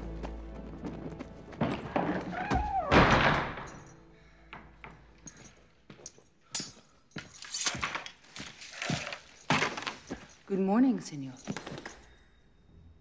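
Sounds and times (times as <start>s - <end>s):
soft footsteps: 0.0s - 2.8s, 3.7s - 12.1s.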